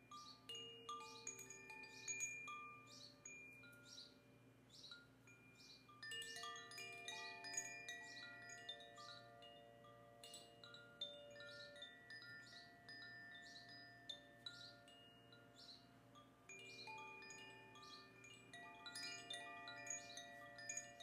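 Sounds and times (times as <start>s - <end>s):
soft chime tones: 0.0s - 21.0s.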